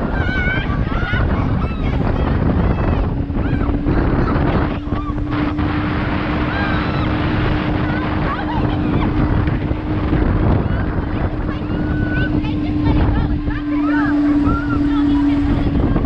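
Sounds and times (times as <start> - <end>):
steady low hum: 0.0 - 16.0
wind rushing over microphone: 0.0 - 16.0.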